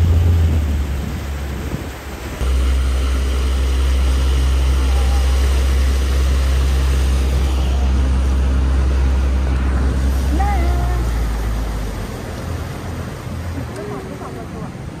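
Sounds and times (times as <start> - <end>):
outboard motor droning: 0.0 - 15.0
water rushing from wake: 0.0 - 15.0.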